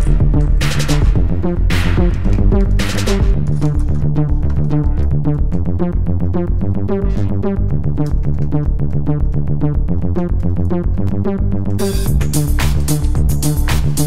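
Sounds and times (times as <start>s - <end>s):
electronic music with driving beat: 0.0s - 14.0s.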